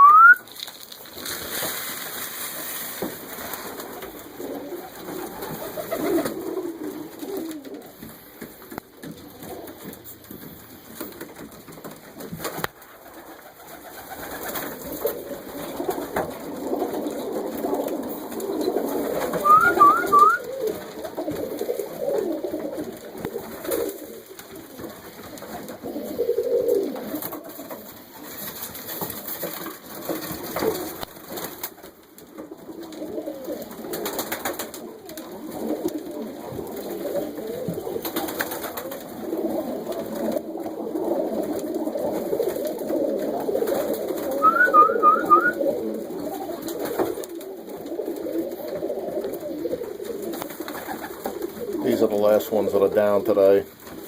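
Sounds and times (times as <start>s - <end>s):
pigeons cooing: 0.0s - 0.6s, 3.2s - 31.3s, 32.0s - 54.0s.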